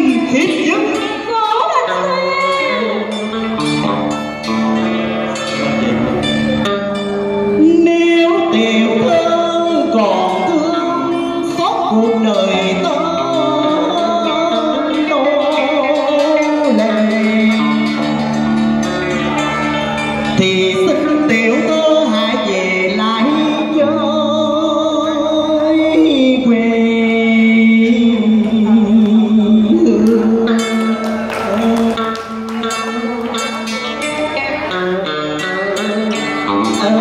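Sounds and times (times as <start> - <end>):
man singing into a microphone: 0.0 - 4.2, 7.5 - 37.0
plucked electric guitar: 0.0 - 37.0.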